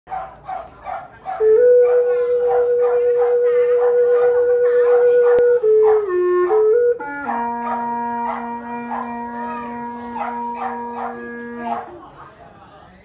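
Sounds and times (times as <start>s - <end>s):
bamboo flute notes: 1.4s - 11.9s.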